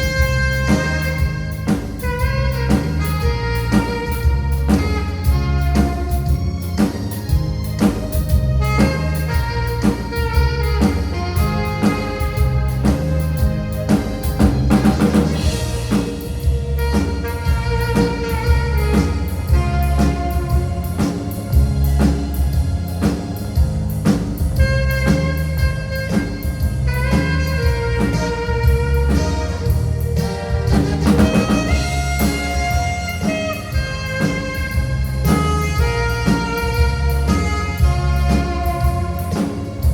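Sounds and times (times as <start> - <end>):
alto saxophone melody: 0.0 - 39.9
drum kit steady beat: 0.0 - 39.9
keyboard: 0.0 - 39.9.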